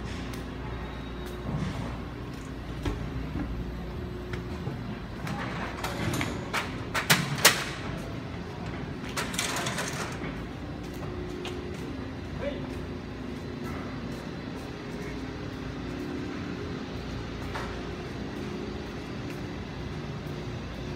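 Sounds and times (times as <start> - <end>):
train low hum: 0.0 - 9.4, 10.2 - 20.9.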